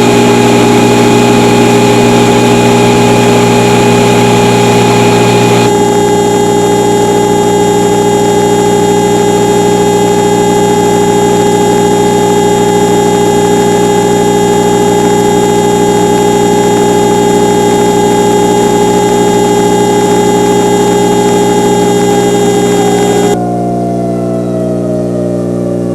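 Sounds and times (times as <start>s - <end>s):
warning siren steady tone: 0.0s - 25.9s.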